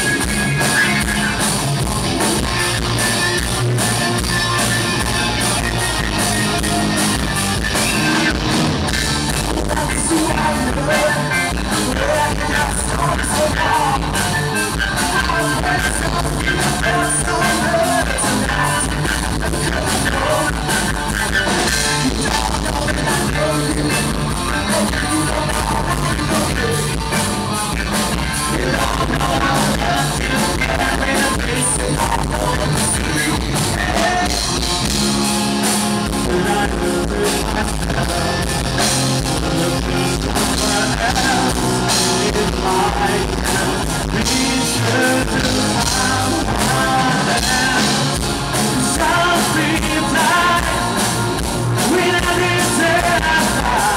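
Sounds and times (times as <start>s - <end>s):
rock band playing live: 0.0s - 53.9s.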